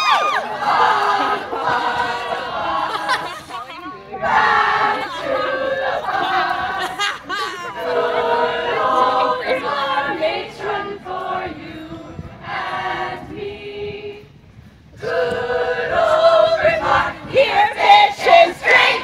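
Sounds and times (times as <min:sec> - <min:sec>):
a cappella group singing: 0:00.4 - 0:19.0.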